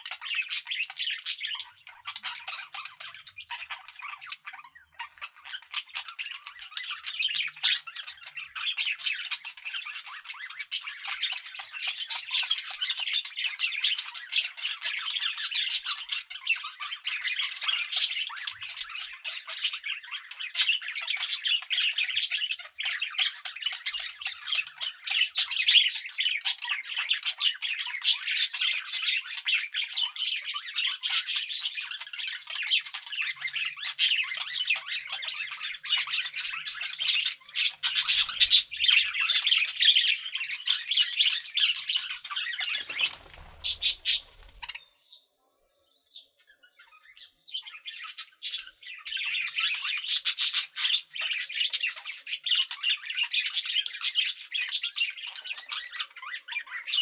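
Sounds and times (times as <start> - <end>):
budgerigars chattering and chirping: 0.0 - 45.1, 46.2 - 57.0.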